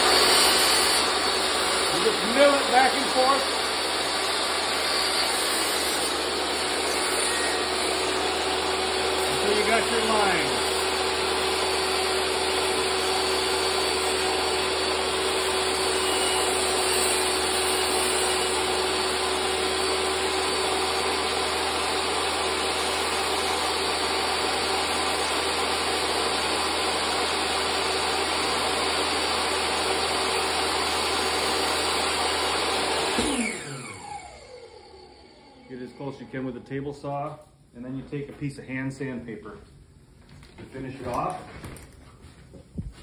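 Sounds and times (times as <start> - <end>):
table saw running: 0.0 - 36.6.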